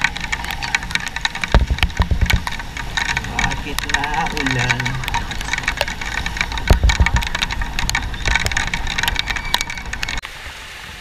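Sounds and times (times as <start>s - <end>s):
raindrops clicking on camera: 0.0s - 10.2s
rain hiss: 0.0s - 11.0s
wind rumbling on microphone: 0.0s - 11.0s.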